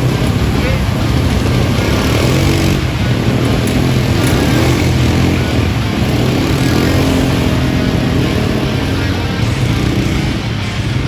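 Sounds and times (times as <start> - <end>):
quad bike engine droning: 0.0 - 11.0.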